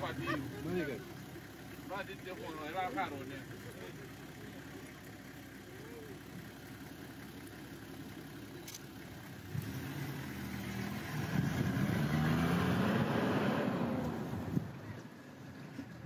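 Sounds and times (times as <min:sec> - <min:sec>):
vehicle engine idling and revving: 0:00.0 - 0:16.0.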